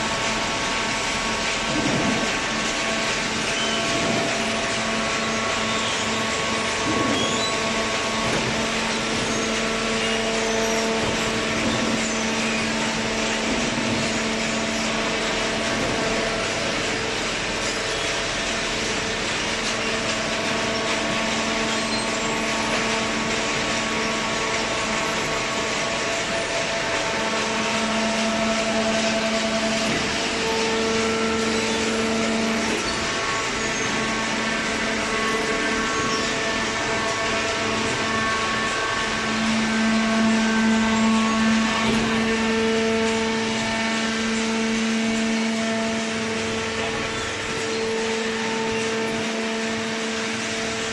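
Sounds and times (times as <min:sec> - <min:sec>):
baler machine drone: 0:00.0 - 0:50.9.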